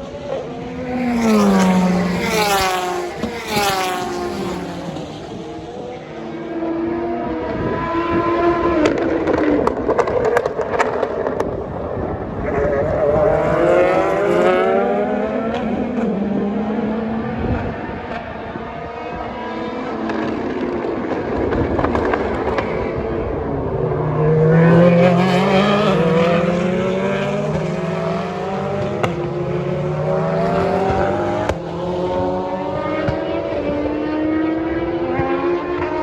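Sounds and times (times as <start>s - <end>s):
race cars passing: 0.0s - 36.0s.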